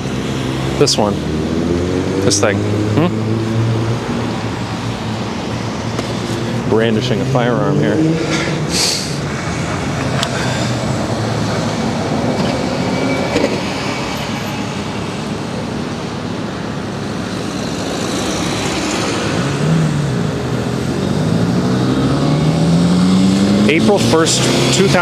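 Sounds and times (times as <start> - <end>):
vehicle engine accelerating: 0.0 - 13.8, 17.1 - 25.0
cars and buses passing: 0.0 - 25.0.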